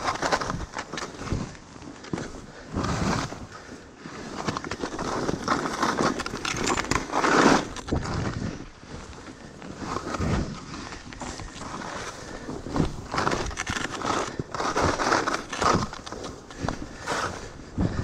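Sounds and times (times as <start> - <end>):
skis swooshing through snow: 0.0 - 18.0.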